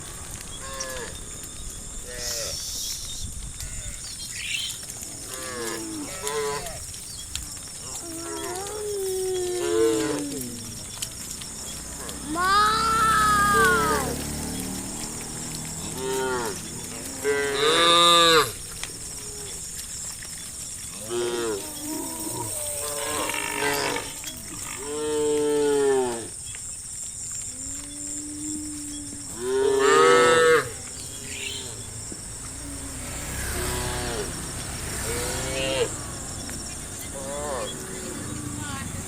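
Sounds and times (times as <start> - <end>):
cows mooing: 4.9 - 26.4, 27.4 - 38.9.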